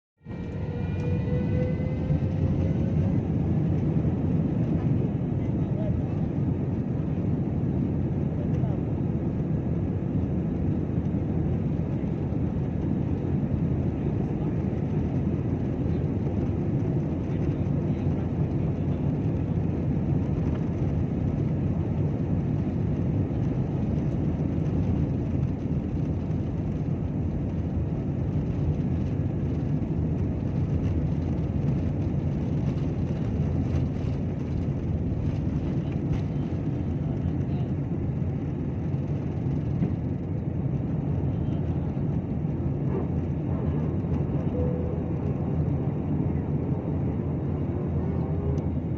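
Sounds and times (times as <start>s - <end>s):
airplane engines taking off: 0.2s - 48.9s.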